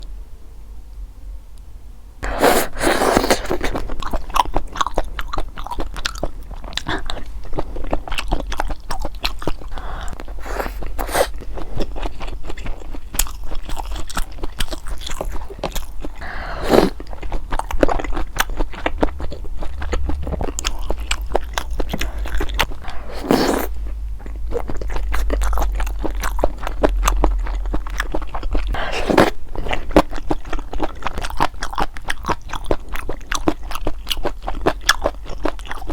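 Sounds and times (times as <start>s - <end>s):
close-miked chewing with wet smacks: 3.4s - 35.9s.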